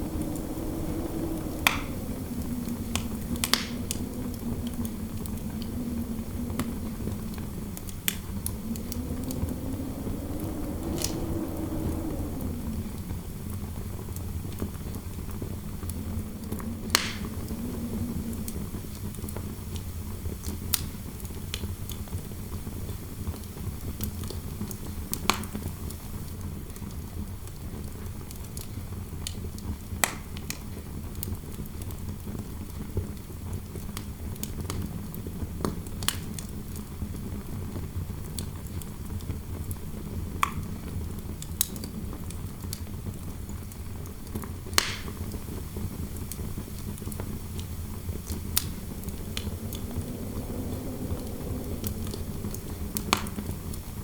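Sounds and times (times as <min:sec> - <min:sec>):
low wind rumble: 0:00.0 - 0:25.1, 0:32.1 - 0:54.0
fireplace fire crackling: 0:00.0 - 0:26.0, 0:28.3 - 0:54.0
faint wind howl: 0:00.0 - 0:26.9, 0:28.4 - 0:54.0.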